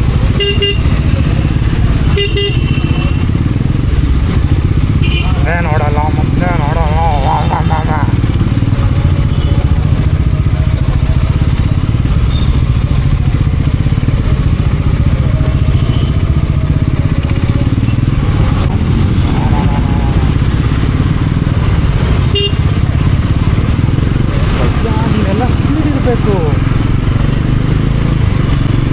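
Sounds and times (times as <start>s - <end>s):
motorcycle engine droning: 0.0s - 28.9s.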